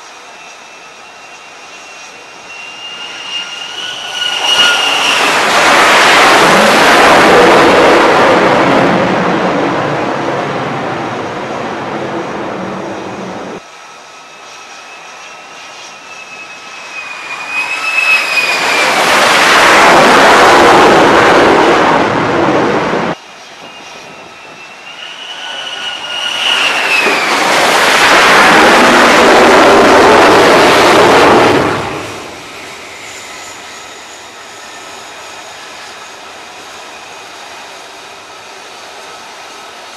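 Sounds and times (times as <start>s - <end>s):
jet engine roaring: 0.0s - 39.9s
jet engine whine: 0.0s - 39.9s.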